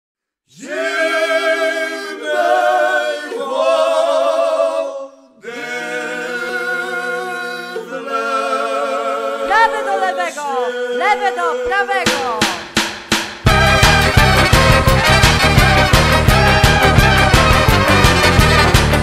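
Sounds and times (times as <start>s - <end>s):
group singing a cappella: 0.5s - 12.6s, 13.5s - 19.0s.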